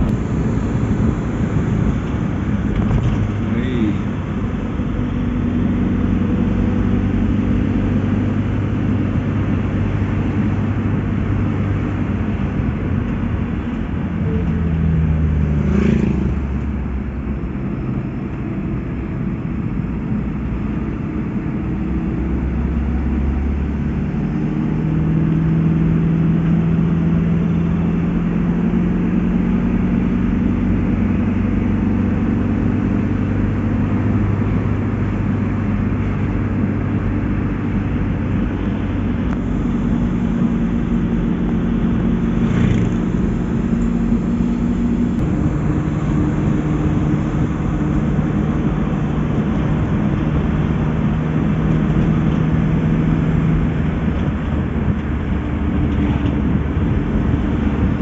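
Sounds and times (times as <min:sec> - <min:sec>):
car engine: 0:00.0 - 0:58.0
road noise: 0:00.0 - 0:58.0.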